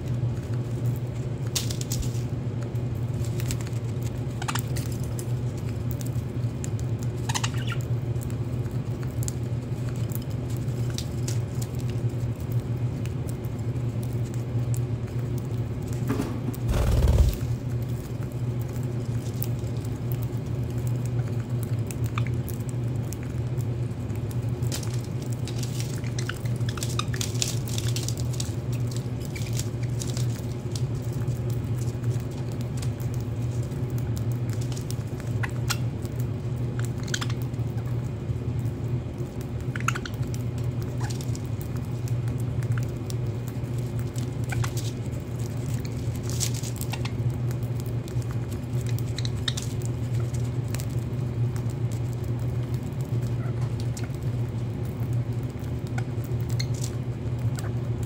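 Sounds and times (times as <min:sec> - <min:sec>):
birds pecking seed clicks: 0:00.0 - 0:57.9
steady low hum: 0:00.0 - 0:58.0.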